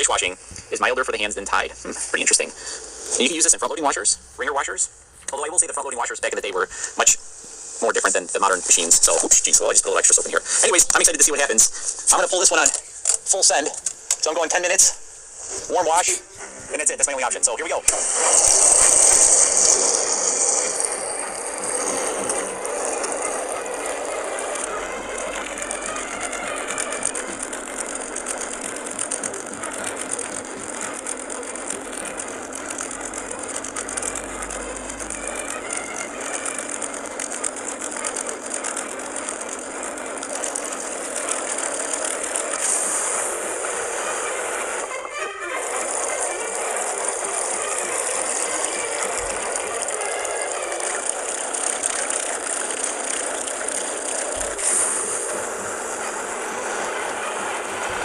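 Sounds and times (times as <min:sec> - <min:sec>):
sped-up washing machine chatter: 0:00.0 - 0:58.0.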